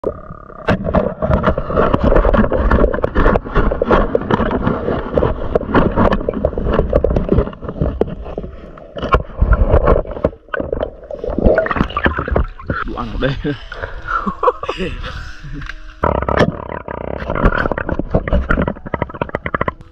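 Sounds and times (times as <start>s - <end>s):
bubbling water: 0.0s - 13.4s, 16.0s - 19.9s
underwater scraping and knocking: 0.0s - 19.9s.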